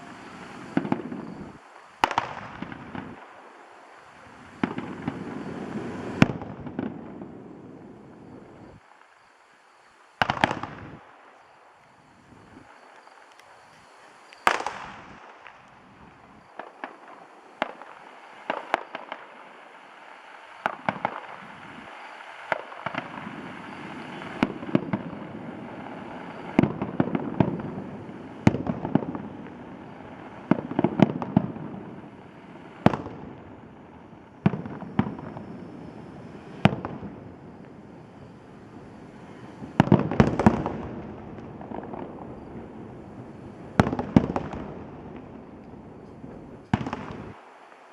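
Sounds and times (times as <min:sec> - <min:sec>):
fireworks banging: 0:00.0 - 0:09.2, 0:10.2 - 0:11.1, 0:12.3 - 0:47.9.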